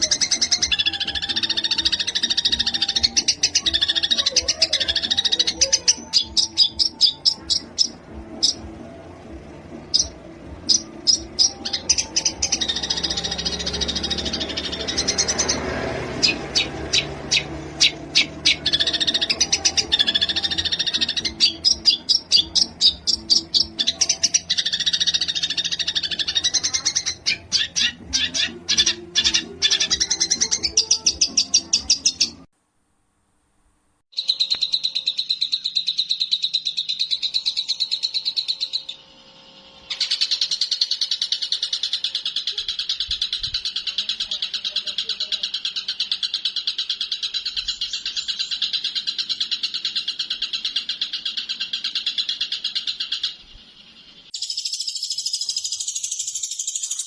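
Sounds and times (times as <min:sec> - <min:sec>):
songbird song: 0:00.0 - 0:32.5, 0:34.1 - 0:57.0
steady high bird trill: 0:00.0 - 0:32.5, 0:34.1 - 0:57.0.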